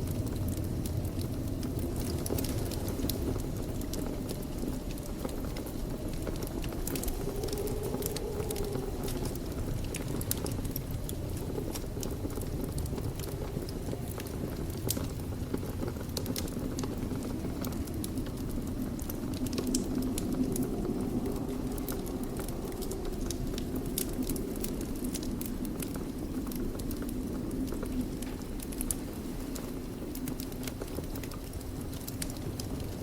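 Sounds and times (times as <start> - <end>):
fire crackling and popping: 0.0 - 33.0
fire flames rushing: 0.0 - 33.0.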